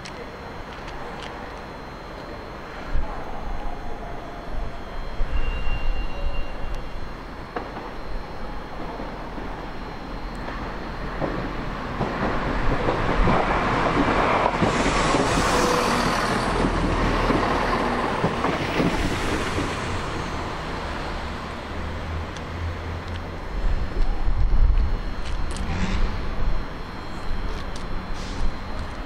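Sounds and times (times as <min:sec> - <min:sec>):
diesel train passing: 0:00.0 - 0:29.0.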